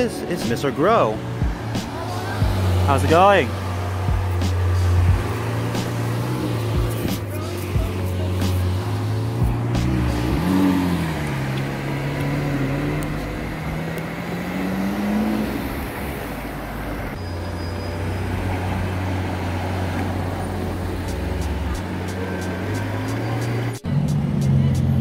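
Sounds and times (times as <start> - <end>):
car engine pulling away: 0.0 - 25.0
low traffic rumble: 0.0 - 25.0.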